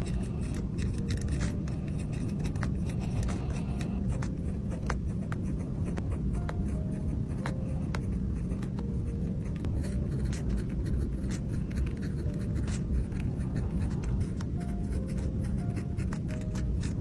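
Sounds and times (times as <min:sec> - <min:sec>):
faint background music: 0:00.0 - 0:17.0
pen scratching on paper: 0:00.0 - 0:17.0.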